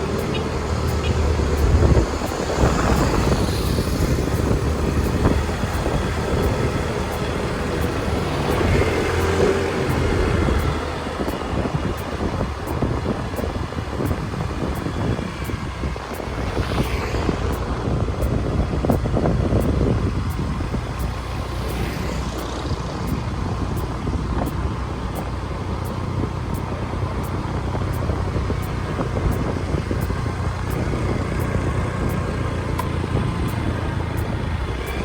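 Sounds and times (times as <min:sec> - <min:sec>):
motorbike engine running: 0:00.0 - 0:35.0
wind rushing over microphone: 0:00.0 - 0:35.0.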